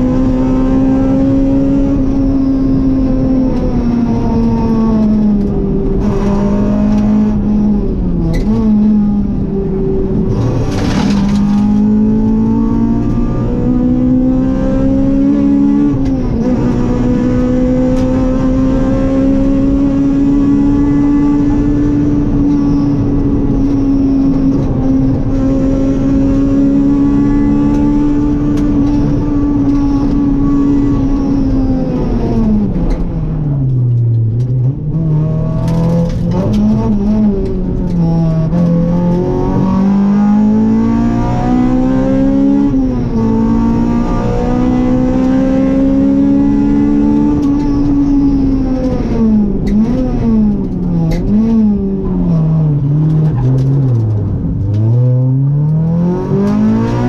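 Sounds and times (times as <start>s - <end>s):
rally car engine at high revs: 0.0s - 57.0s.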